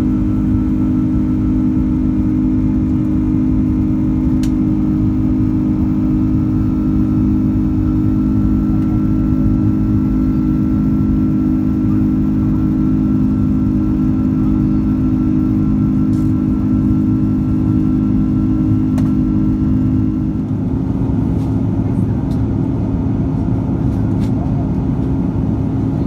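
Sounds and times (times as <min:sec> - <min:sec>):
deep constant hum: 0:00.0 - 0:26.0
jet engine cabin drone: 0:00.0 - 0:26.0.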